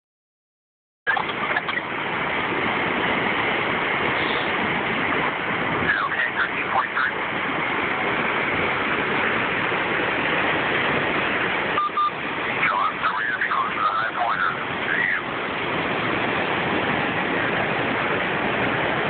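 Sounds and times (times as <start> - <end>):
floodwater rushing: 1.1 - 19.0.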